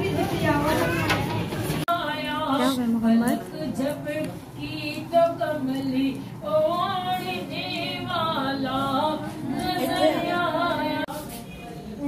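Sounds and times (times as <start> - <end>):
women singing unaccompanied: 0.0 - 11.5.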